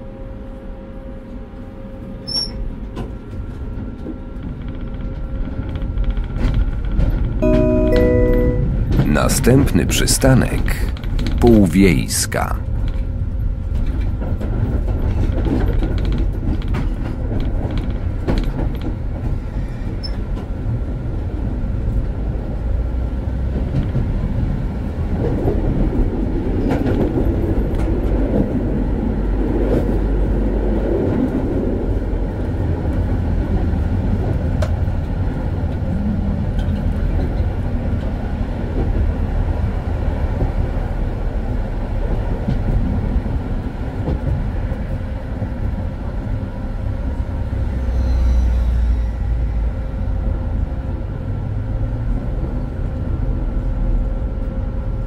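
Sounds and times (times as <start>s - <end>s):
tram wheels rumbling on rails: 0.0s - 11.5s, 12.4s - 55.0s.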